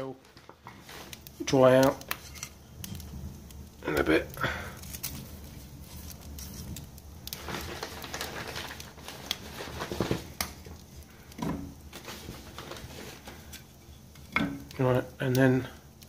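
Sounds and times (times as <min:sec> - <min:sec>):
wood fire crackling: 0:00.0 - 0:16.0
sharp pops and cracks: 0:00.3 - 0:16.0.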